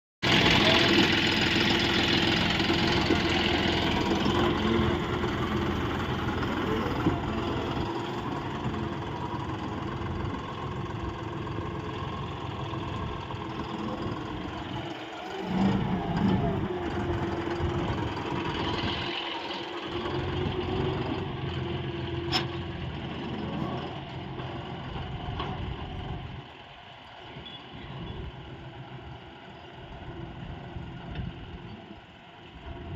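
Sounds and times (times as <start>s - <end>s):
tractor diesel engine running: 0.2s - 32.9s.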